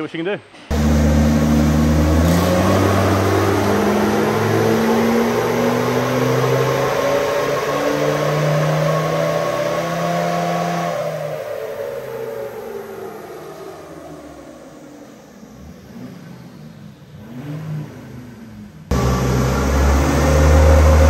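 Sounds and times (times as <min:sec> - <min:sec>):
diesel engine revving under load: 0:00.7 - 0:14.5, 0:15.4 - 0:21.0
dyno rollers winding down: 0:00.7 - 0:17.5, 0:18.9 - 0:21.0.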